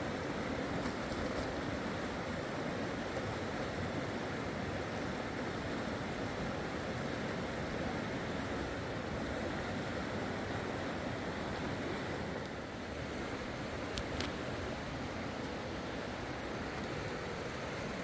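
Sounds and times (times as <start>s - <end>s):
fast-flowing river water rushing: 1.6s - 18.0s.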